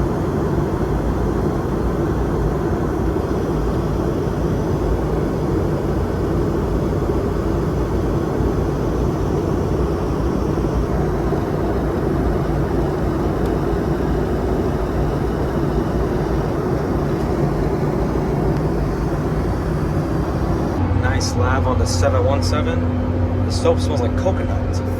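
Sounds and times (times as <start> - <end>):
airplane cabin roar: 0.0 - 24.9.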